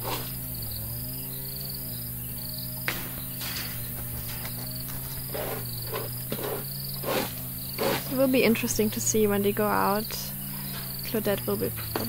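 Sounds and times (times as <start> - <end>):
insects chirping: 0.0 - 12.0
steady low hum: 0.0 - 12.0.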